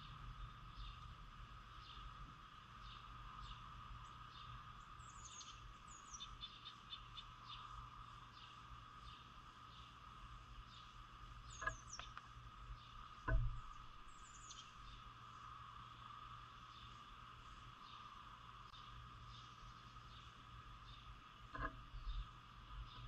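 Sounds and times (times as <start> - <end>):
insect drone: 0.0 - 23.0.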